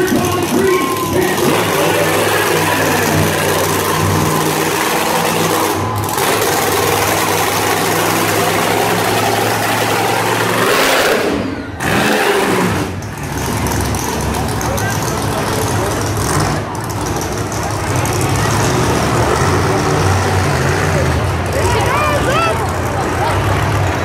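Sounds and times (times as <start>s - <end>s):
truck engine running loud: 0.0s - 24.0s.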